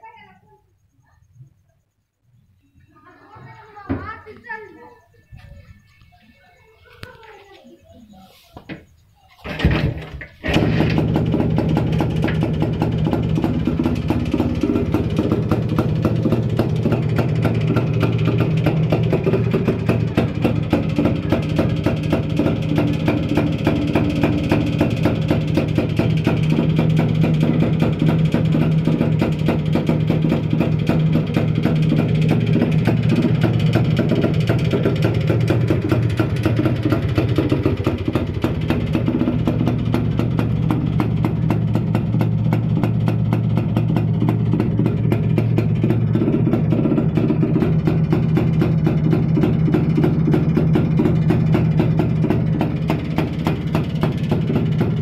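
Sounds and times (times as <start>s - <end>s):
two-stroke motorcycle engine idling: 0.0s - 55.0s
motorcycle engine starting: 8.7s - 55.0s.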